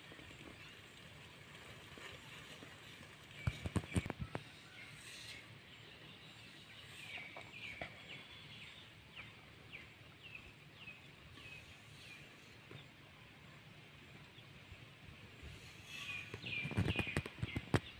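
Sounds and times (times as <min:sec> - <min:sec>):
faint bird chirping: 0:02.4 - 0:14.7, 0:15.3 - 0:17.9.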